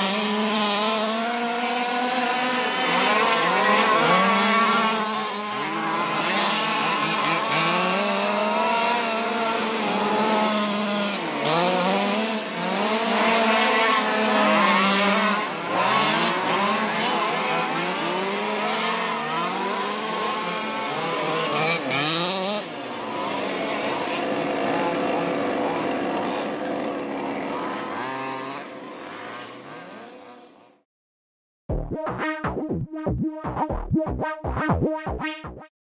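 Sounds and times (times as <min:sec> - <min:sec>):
rc car engines racing: 0:00.0 - 0:30.7.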